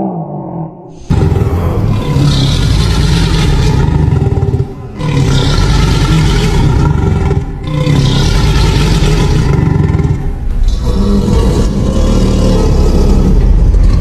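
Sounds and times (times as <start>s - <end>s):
dinosaur roar: 0.0s - 14.0s.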